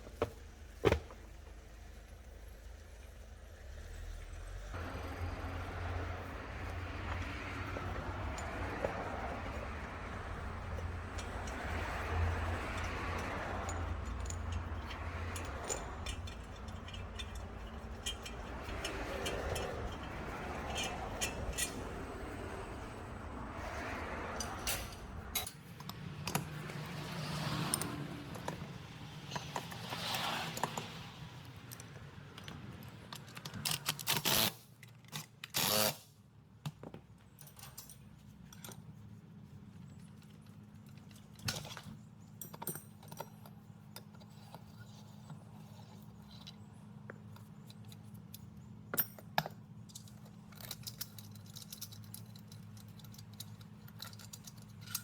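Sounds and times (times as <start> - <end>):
metal tools clinking and scraping: 4.8 - 31.1, 37.3 - 55.0.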